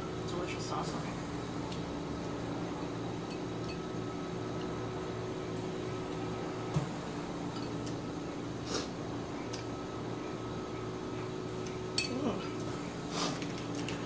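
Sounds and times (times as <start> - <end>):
steady fan hum: 0.0 - 14.0.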